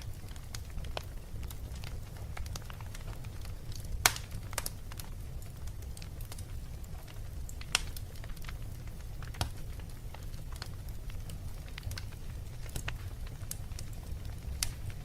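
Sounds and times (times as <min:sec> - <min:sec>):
fire crackling with pops: 0:00.0 - 0:15.0.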